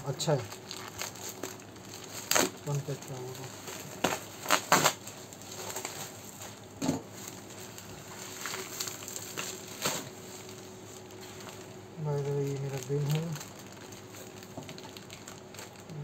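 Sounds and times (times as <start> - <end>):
plastic mailer and bubble wrap crinkling: 0.0 - 16.0.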